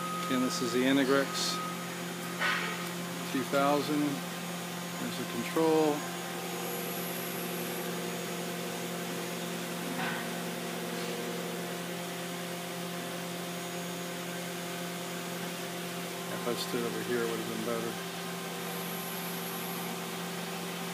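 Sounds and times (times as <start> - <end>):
machine hum with held tones: 0.0 - 20.9.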